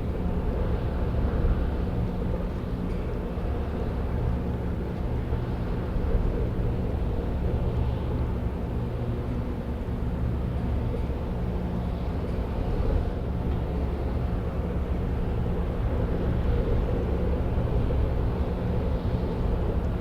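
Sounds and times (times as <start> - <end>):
ship diesel engines droning: 0.0 - 20.0.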